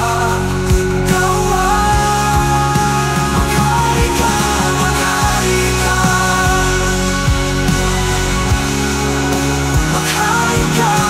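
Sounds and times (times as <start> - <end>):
rock band playing chords: 0.0 - 11.0
steady drum beat: 0.0 - 11.0.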